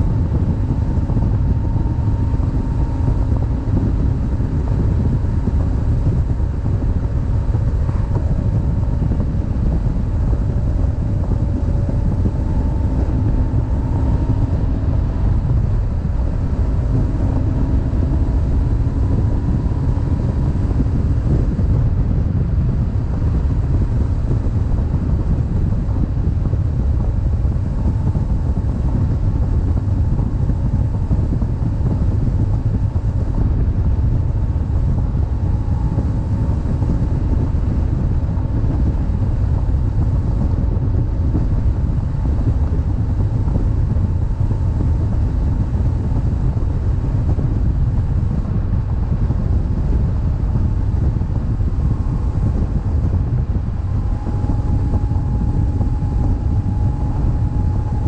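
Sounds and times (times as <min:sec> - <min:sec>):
motorcycle engine drone: 0:00.0 - 0:58.0
wind buffeting microphone: 0:00.0 - 0:58.0.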